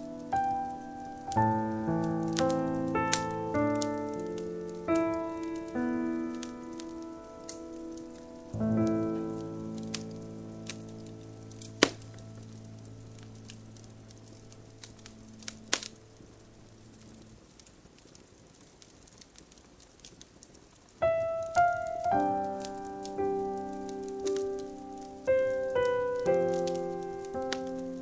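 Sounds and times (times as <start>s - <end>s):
piano chords and notes: 0.0s - 17.5s, 21.0s - 28.0s
campfire crackling: 0.0s - 28.0s
fire pops: 0.0s - 28.0s.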